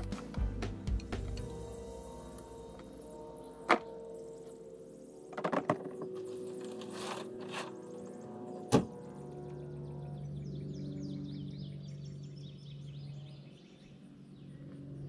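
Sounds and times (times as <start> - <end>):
faint steady tones: 0.0 - 15.0.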